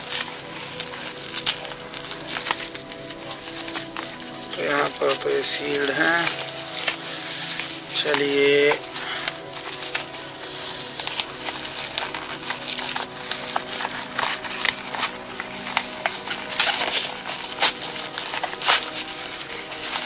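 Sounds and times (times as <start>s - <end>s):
packaging rustling and crinkling: 0.0s - 20.0s
packaging tearing: 0.0s - 20.0s.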